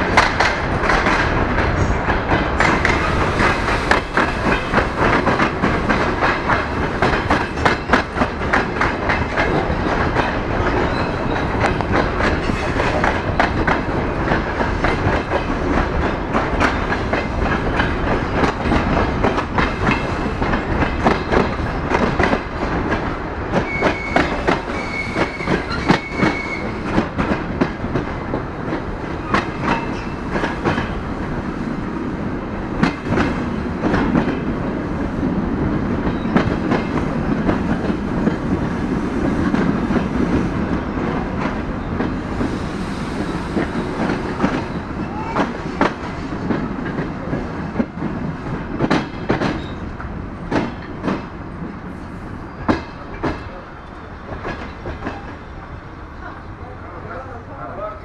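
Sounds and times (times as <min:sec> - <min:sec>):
wheels clacking over rail joints: 0:00.0 - 0:31.5, 0:32.6 - 0:51.8
train rolling noise: 0:00.0 - 0:58.0.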